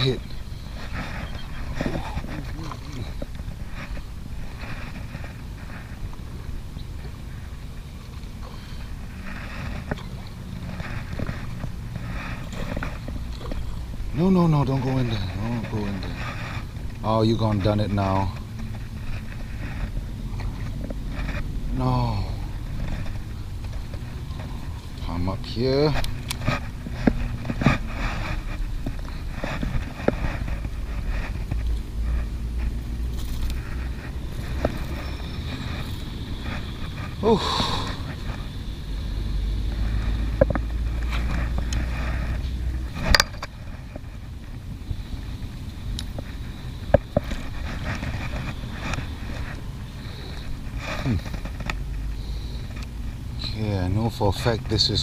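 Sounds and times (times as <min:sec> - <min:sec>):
rustling in grass: 0:00.0 - 0:54.6
wind rumbling on microphone: 0:00.0 - 0:55.0.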